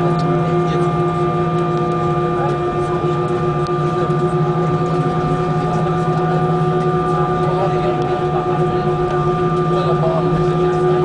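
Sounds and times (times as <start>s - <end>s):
jet engines rushing in cabin: 0.0s - 11.0s.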